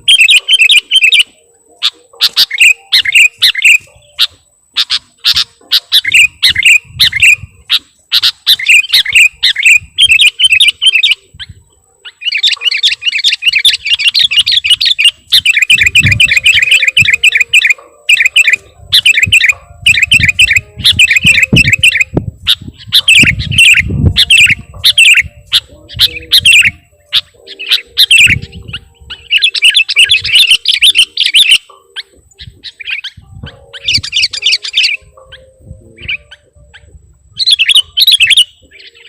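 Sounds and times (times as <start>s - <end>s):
bird chirping rapidly: 0.0s - 39.0s.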